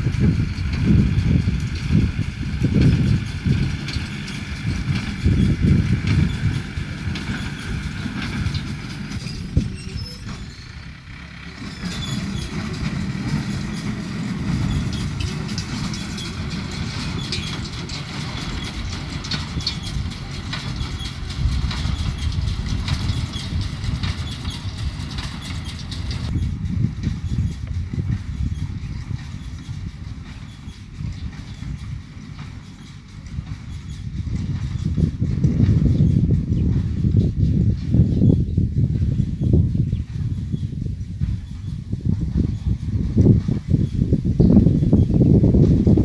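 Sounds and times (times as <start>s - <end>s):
baler mechanical working sound: 0.0s - 46.0s
tractor engine running: 0.0s - 46.0s.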